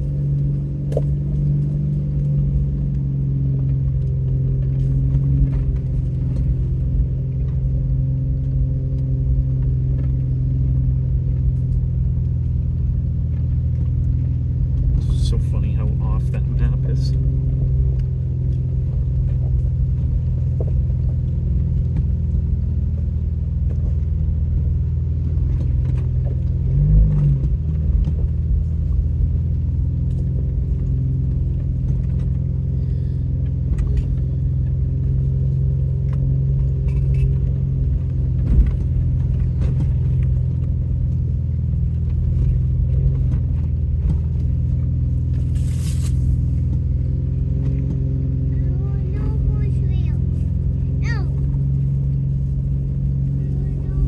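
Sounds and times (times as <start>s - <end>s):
off-road vehicle engine drone: 0.0s - 54.0s.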